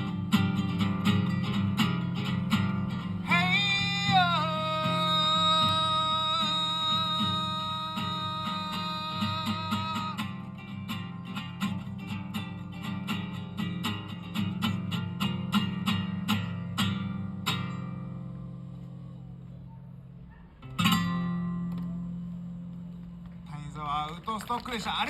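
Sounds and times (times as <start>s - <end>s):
acoustic guitar strumming: 0.0s - 19.7s, 20.6s - 23.5s.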